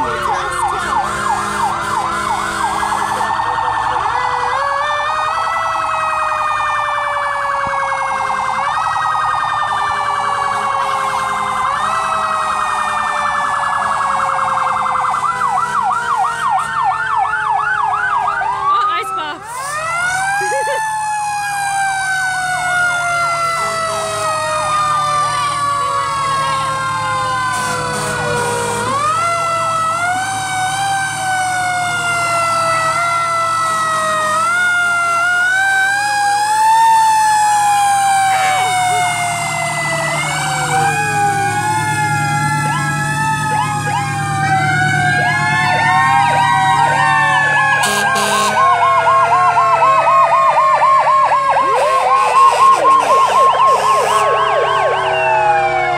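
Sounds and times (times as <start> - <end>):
siren fast yelp: 0.0 - 6.6, 7.4 - 55.9
sirens wailing: 0.0 - 55.9.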